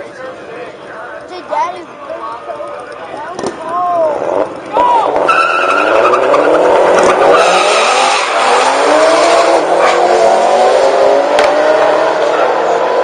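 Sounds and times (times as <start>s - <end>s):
car engines accelerating: 1.9s - 13.0s.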